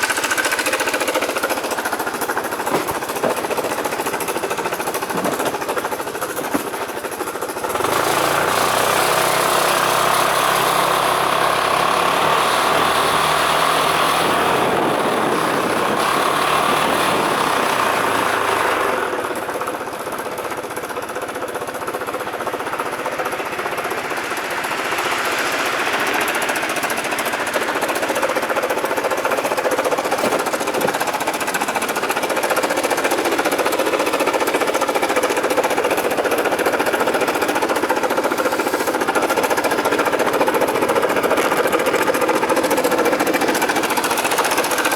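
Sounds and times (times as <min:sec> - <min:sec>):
scooter engine clattering: 0:00.0 - 0:44.9.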